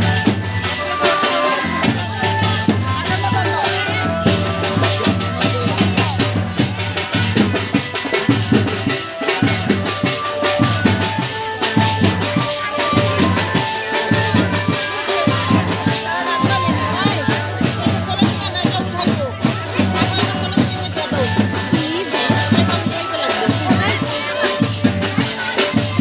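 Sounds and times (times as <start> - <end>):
music with drum-kit beat: 0.0 - 26.0.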